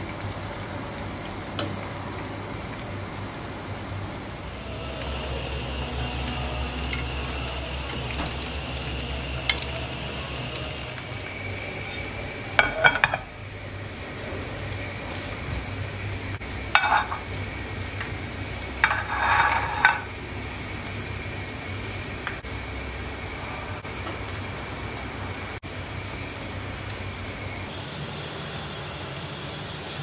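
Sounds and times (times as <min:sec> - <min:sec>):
battered vegetables frying in oil: 0:00.0 - 0:30.0.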